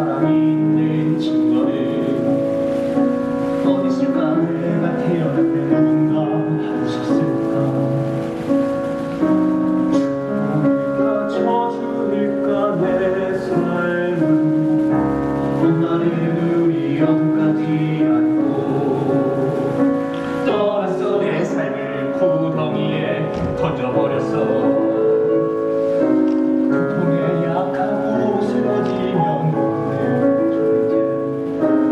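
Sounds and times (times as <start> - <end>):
men singing show tune: 0.0 - 2.7, 3.6 - 8.5, 9.9 - 25.7, 26.7 - 31.9
live instrumental accompaniment: 0.0 - 31.9.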